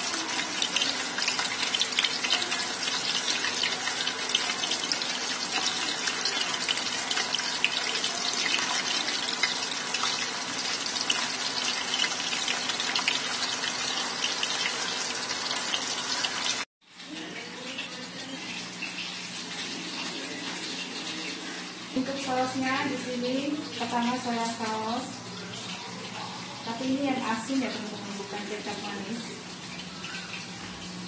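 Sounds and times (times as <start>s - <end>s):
chicken sizzling in hot oil: 0.0s - 31.0s.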